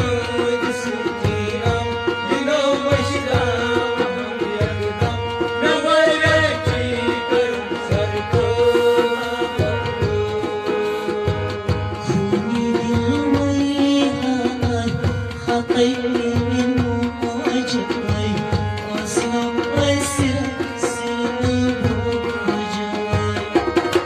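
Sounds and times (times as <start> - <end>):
harmonium melody: 0.0 - 24.0
tabla strokes: 0.0 - 24.0.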